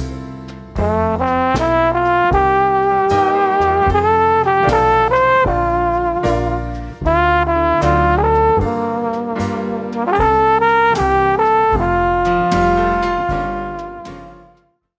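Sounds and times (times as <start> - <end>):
brass music chords: 0.0 - 14.7.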